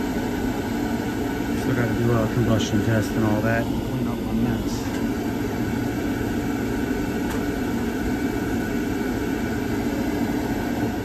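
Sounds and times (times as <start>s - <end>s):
oil burner humming: 0.0s - 11.0s.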